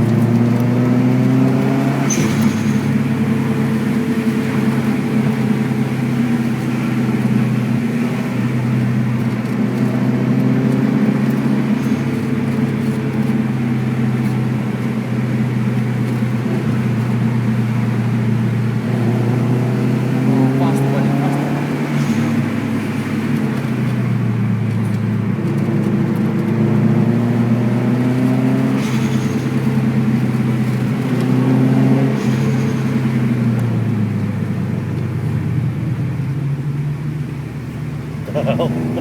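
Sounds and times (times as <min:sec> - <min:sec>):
car engine droning: 0:00.0 - 0:39.0
road noise: 0:00.0 - 0:39.0.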